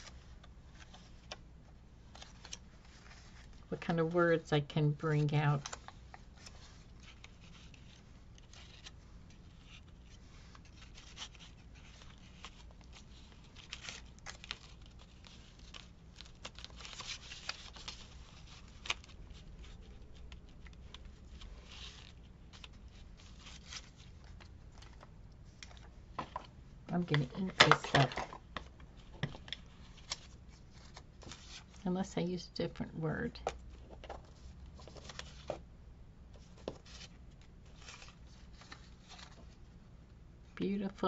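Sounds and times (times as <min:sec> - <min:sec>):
paper rustling: 0:02.0 - 0:03.7, 0:05.2 - 0:31.8, 0:33.7 - 0:35.6, 0:36.4 - 0:39.6.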